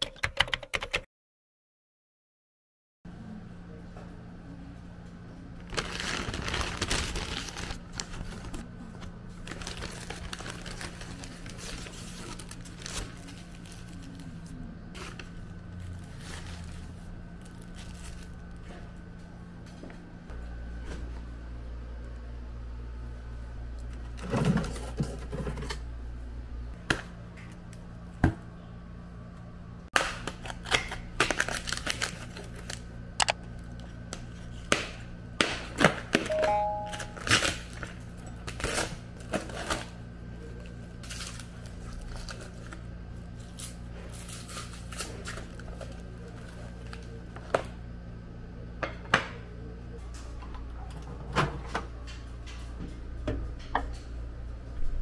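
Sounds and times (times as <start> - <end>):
steady low hum: 3.1 - 55.0.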